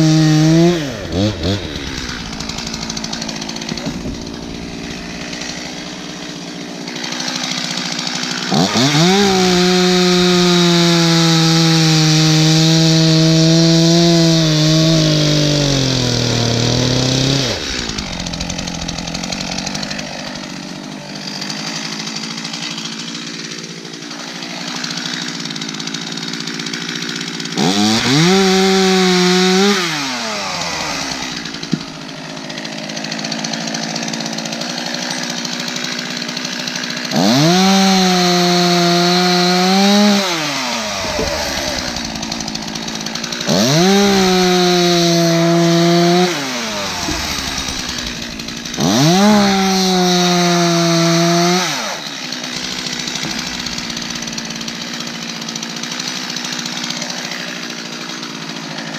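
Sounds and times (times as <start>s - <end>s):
chainsaw idling and revving: 0.0s - 58.9s.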